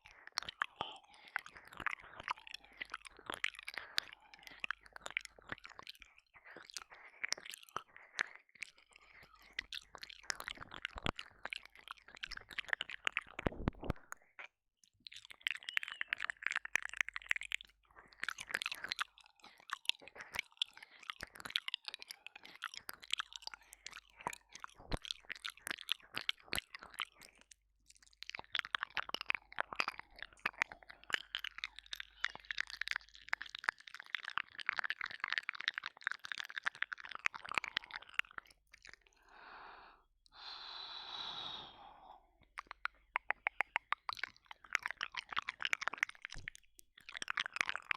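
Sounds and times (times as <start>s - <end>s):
wet mouth sounds: 0.0s - 47.9s.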